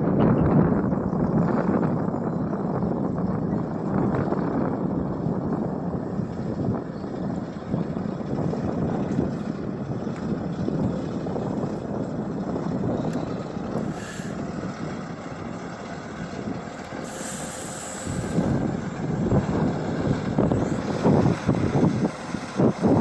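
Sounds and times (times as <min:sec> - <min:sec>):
highway truck traffic: 0:00.0 - 0:23.0
wind buffeting microphone: 0:00.0 - 0:23.0.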